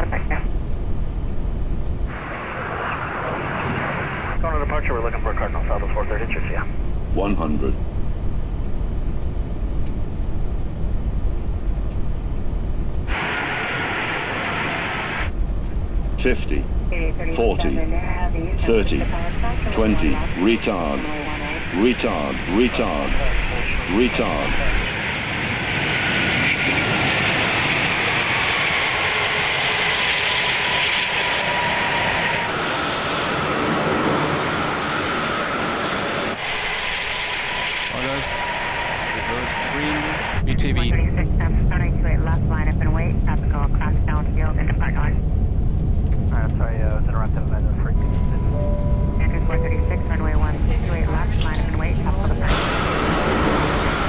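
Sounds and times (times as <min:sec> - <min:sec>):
airflow and engine rumble: 0:00.0 - 0:54.0.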